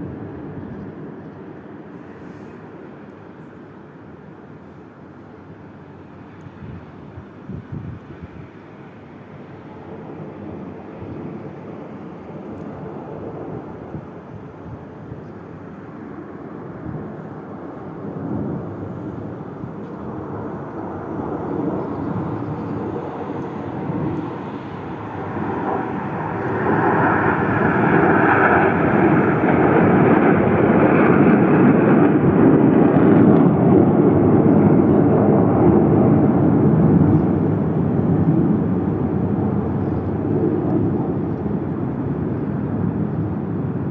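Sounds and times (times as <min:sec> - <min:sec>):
airplane flying past: 0:07.9 - 0:43.9.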